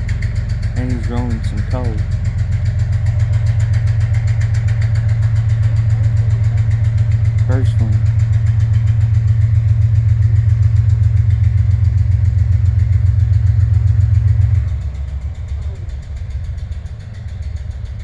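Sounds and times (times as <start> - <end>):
locomotive engine pulsing: 0.0 - 18.0.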